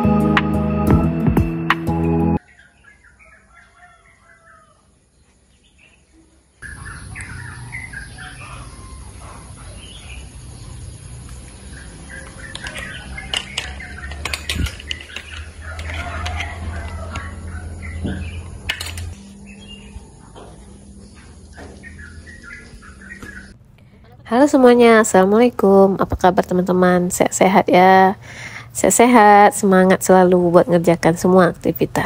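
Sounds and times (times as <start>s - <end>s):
small birds chirping: 2.4s - 32.0s.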